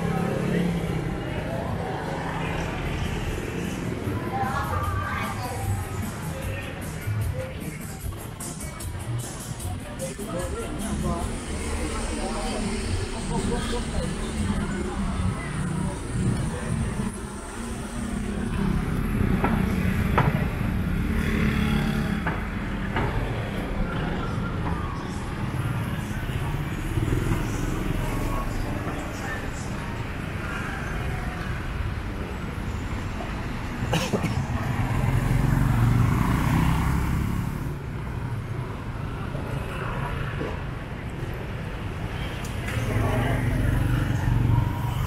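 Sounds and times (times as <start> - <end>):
street background noise: 0.0 - 45.0
vehicle engine humming: 5.4 - 45.0.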